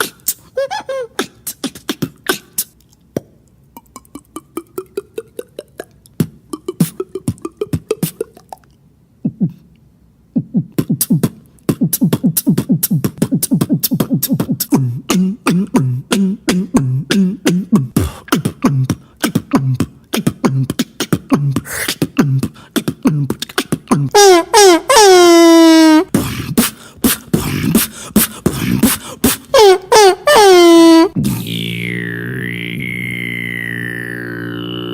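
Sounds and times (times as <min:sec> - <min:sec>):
human beatboxing: 0:00.0 - 0:09.7, 0:10.3 - 0:24.3, 0:25.1 - 0:34.9.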